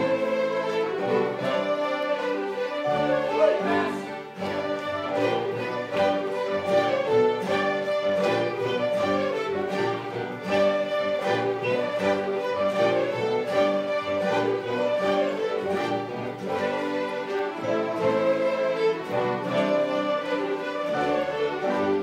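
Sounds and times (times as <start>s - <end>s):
fiddles playing a tune: 0.0s - 22.0s.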